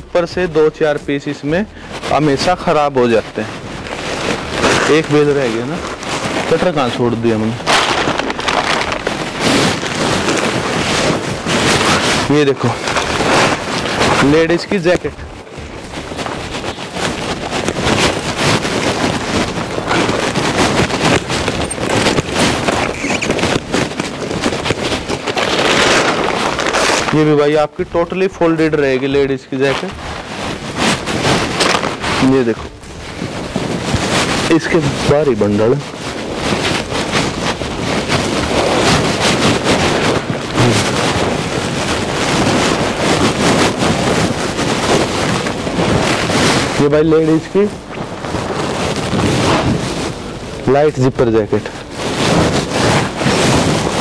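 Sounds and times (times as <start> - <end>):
plastic sacking rustling and ripping: 0.0 - 54.0.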